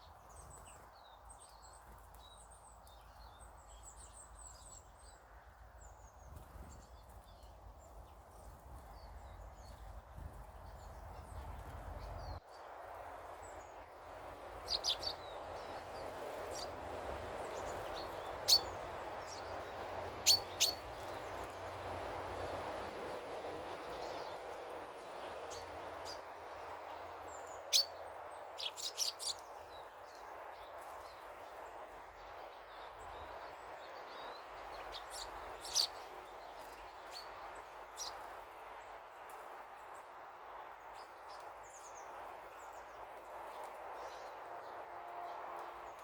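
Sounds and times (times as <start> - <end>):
small birds chirping: 0.0 - 12.7, 13.4 - 21.8, 23.7 - 44.8.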